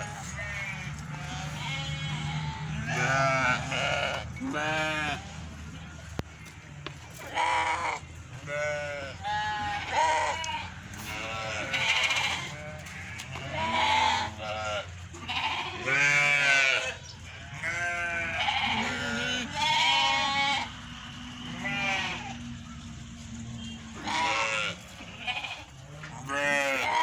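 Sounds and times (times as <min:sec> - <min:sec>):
goats bleating: 0:00.0 - 0:22.7, 0:23.6 - 0:27.0.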